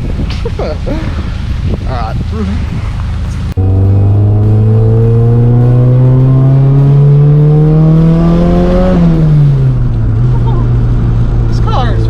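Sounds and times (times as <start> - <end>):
turbocharged engine accelerating: 0.0 - 12.0.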